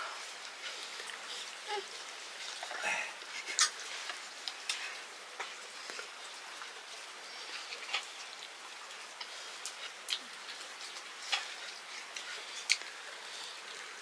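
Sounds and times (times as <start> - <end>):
steady soft hiss: 0.0 - 14.0.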